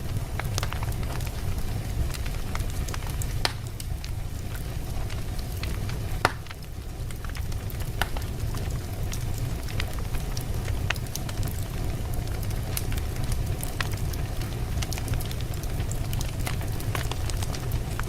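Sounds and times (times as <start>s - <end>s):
crackles and pops of burning logs: 0.0s - 18.0s
low rumble of flames: 0.0s - 18.0s.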